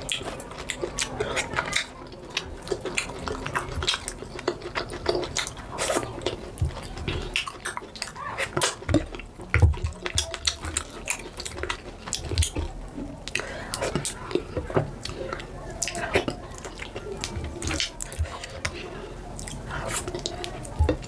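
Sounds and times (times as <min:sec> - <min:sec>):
lip smacks: 0:00.0 - 0:21.0
wet eating and chewing: 0:00.0 - 0:21.0.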